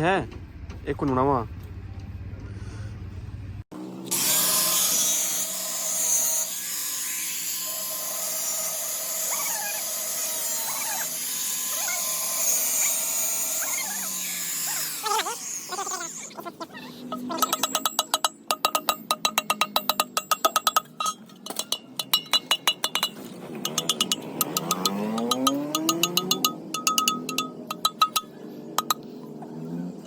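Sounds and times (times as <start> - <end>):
angle grinder cutting steel: 4.0 - 29.2.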